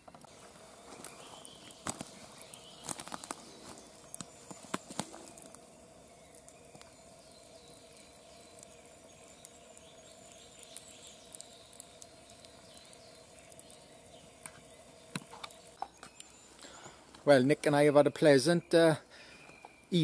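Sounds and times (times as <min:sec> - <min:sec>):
campfire crackling: 0:00.0 - 0:20.0
fire popping: 0:00.0 - 0:20.0.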